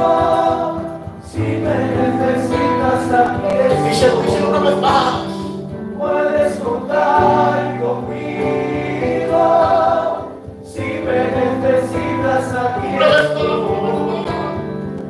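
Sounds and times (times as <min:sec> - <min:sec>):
congregation singing in unison: 0:00.0 - 0:15.0
musical accompaniment: 0:00.0 - 0:15.0.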